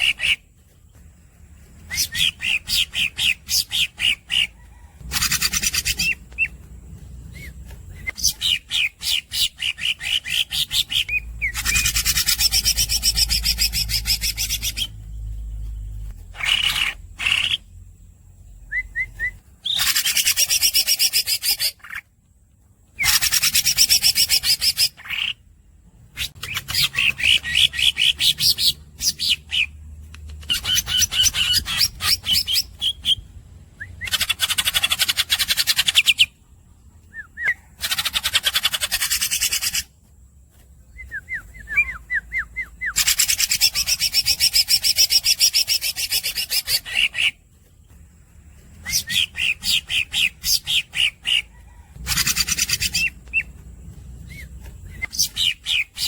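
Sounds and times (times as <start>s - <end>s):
squeaky bird chirps: 0.0s - 0.5s, 1.8s - 17.7s, 18.7s - 22.1s, 23.0s - 25.5s, 26.1s - 36.4s, 37.0s - 39.9s, 40.9s - 47.4s, 48.8s - 56.0s
bird singing rapid trills: 0.0s - 22.2s, 22.9s - 56.0s.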